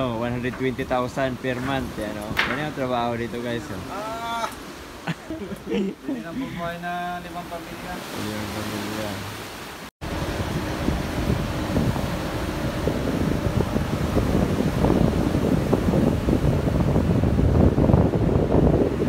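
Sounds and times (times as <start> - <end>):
wind buffeting microphone: 0.0 - 6.8, 7.8 - 19.0
ship's wake rushing: 0.0 - 19.0.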